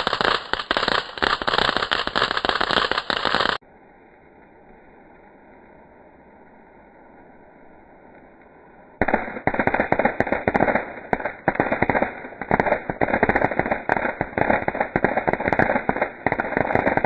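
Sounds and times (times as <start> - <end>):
fireworks crackling: 0.0 - 3.6, 4.4 - 17.0.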